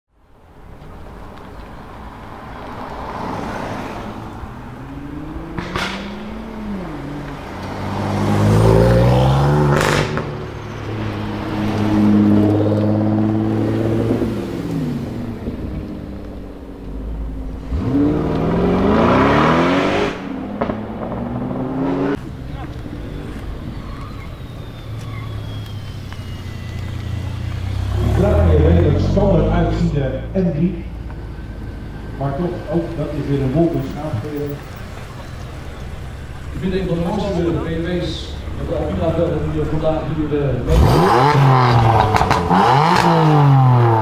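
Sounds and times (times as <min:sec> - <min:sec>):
cars accelerating and driving past: 0:00.2 - 0:44.0.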